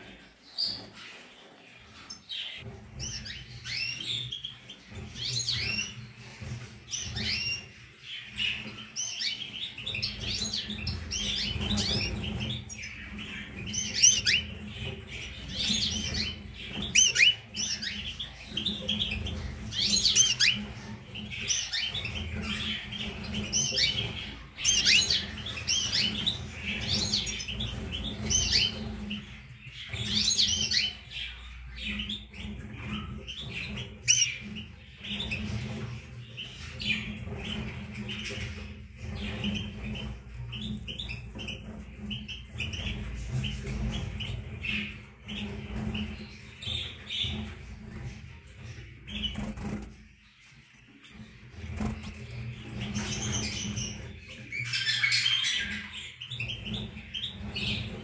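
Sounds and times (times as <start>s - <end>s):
birds twittering and warbling: 0.0s - 58.0s.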